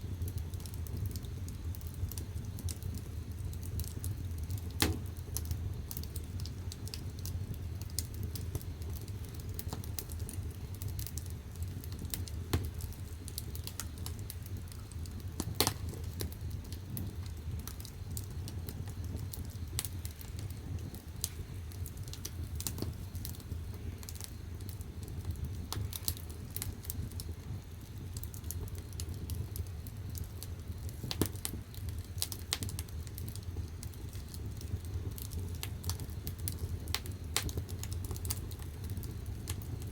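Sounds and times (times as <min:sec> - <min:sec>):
firewood crackling and popping: 0:00.0 - 0:39.9
low fire rumble: 0:00.0 - 0:39.9.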